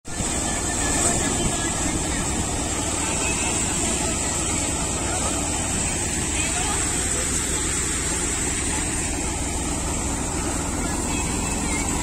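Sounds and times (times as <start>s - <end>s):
paddy thresher running: 0.0s - 12.0s
tractor engine running: 0.0s - 12.0s.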